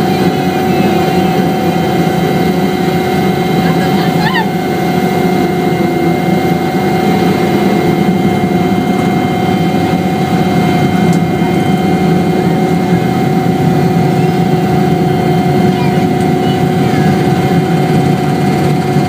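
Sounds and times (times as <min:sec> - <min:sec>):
helicopter drone: 0:00.0 - 0:19.0
high whine: 0:00.0 - 0:19.0.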